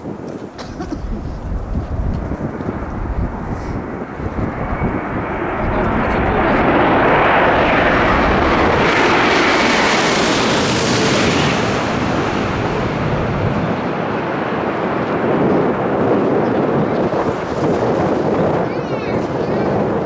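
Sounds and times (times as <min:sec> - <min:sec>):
jet airliner passing overhead: 0:00.1 - 0:20.0.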